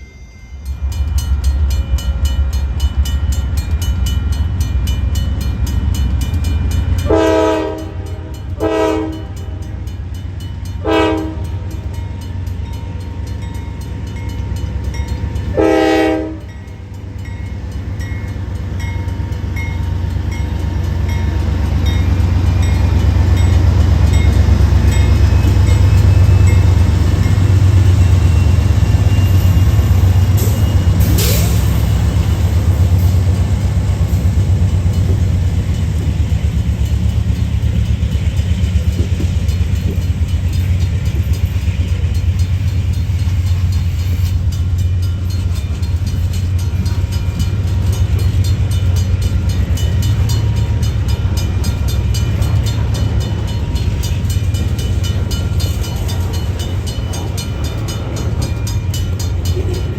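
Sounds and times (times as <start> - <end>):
freight train rumbling past: 0.0 - 59.9
wheels clicking over rail joints: 11.5 - 59.9.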